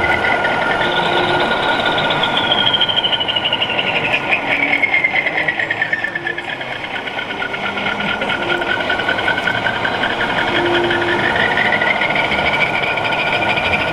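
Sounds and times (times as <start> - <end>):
busy mechanical rush: 0.0 - 13.9
small electric motors whining: 0.0 - 13.9.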